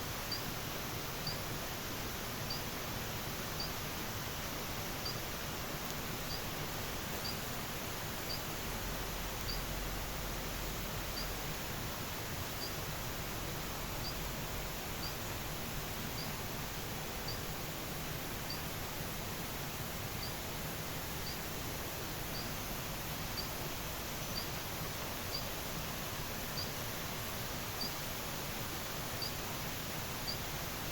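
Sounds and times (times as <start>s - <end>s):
steady outdoor hiss: 0.0s - 30.9s.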